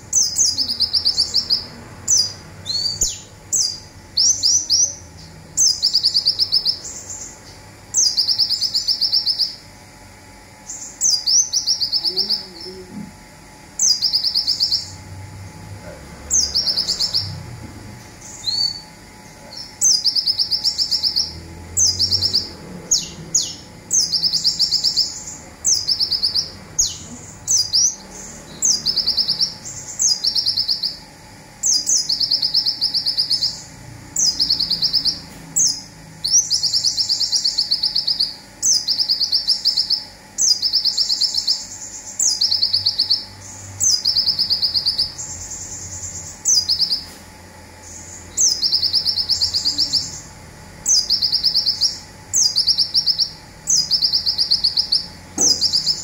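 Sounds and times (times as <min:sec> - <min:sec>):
sunbird singing buzzy trills: 0:00.0 - 0:56.0.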